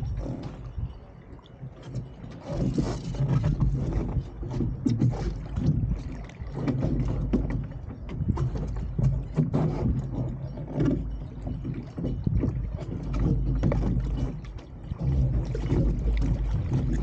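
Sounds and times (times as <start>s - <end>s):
water splashing against hull: 0.0s - 17.0s
wind buffeting microphone: 0.0s - 17.0s.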